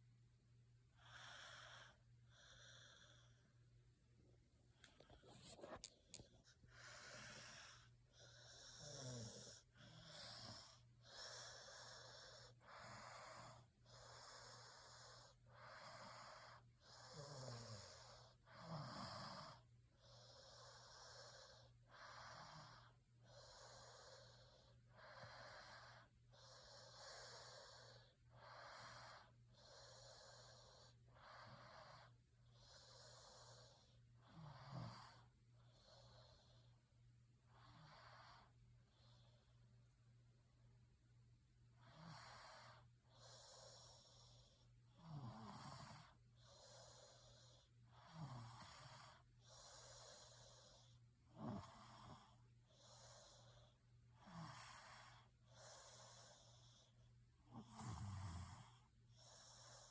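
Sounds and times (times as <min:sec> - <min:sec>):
person breathing and snoring: 0:00.9 - 0:03.6, 0:04.8 - 0:36.8, 0:41.8 - 0:59.9.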